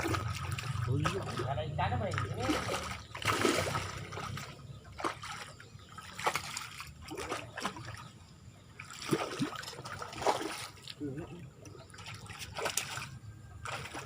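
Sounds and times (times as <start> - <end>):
fish splashing in water: 0.0 - 14.0.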